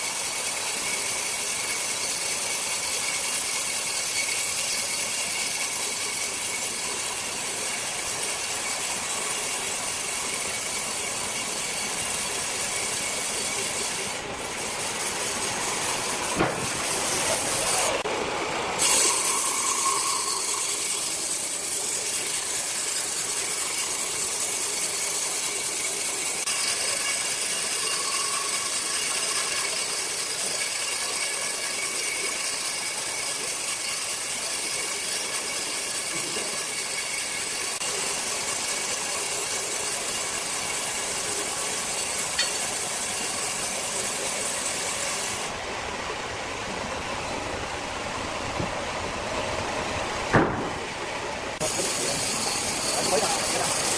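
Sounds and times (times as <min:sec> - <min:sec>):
circular saw whining: 0:00.0 - 0:53.9.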